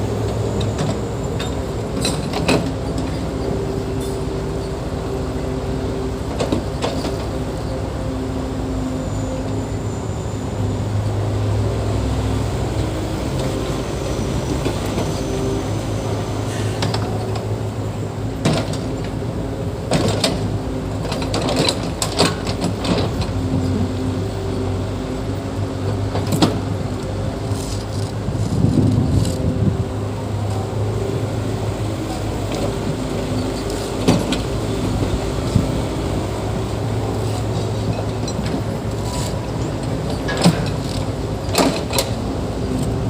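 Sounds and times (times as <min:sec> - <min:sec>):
heavy diesel machinery running: 0:00.0 - 0:43.0.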